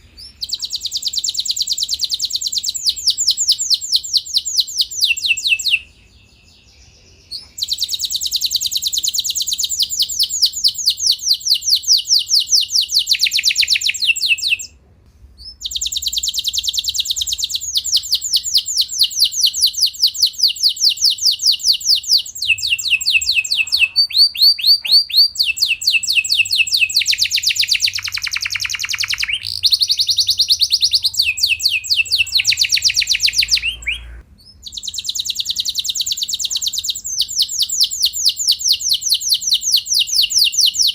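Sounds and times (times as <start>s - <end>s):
canary singing trills: 0.0s - 14.8s, 15.4s - 40.9s.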